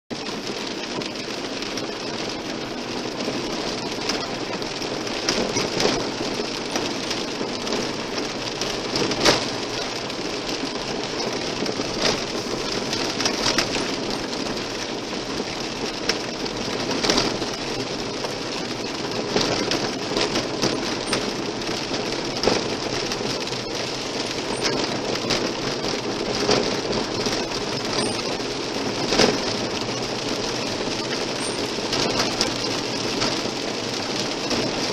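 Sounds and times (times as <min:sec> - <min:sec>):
car tyres on gravel: 0:00.1 - 0:34.9.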